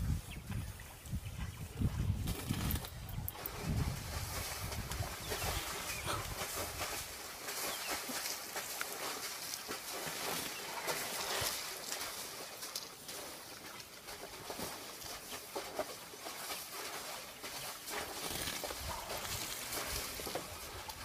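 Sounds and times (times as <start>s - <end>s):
mud and water sloshing: 0.1s - 21.0s.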